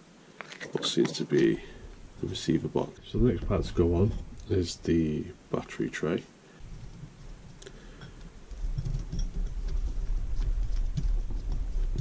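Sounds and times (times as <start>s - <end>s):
low rumble of handling: 0.5s - 5.4s, 6.6s - 12.0s.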